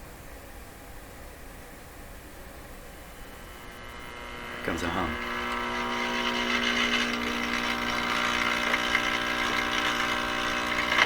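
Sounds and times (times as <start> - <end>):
radio speaker mains hum with hiss: 0.0 - 11.0.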